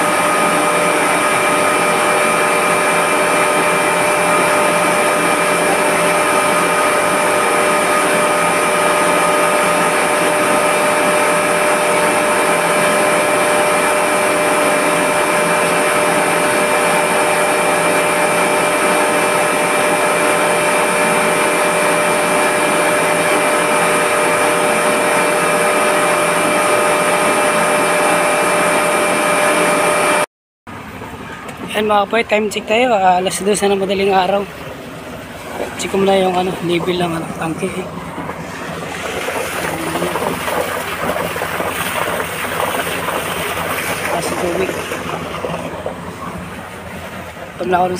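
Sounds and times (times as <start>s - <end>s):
electric motor and pump running: 0.0s - 47.9s.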